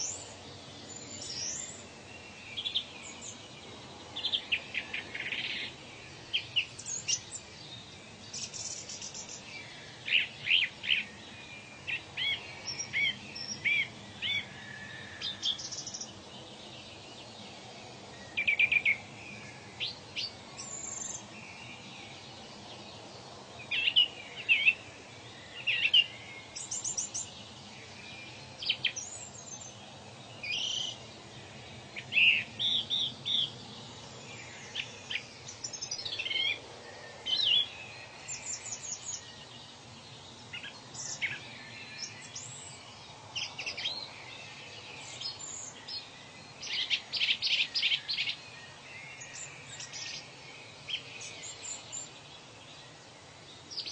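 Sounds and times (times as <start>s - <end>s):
birds chirping and singing: 0.0s - 53.9s
steady background hiss: 0.0s - 53.9s.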